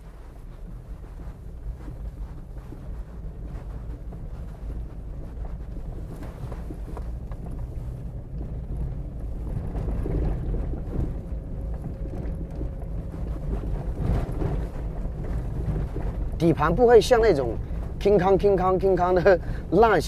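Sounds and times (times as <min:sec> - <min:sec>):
tyres rumbling on rough ground: 0:00.0 - 0:20.0.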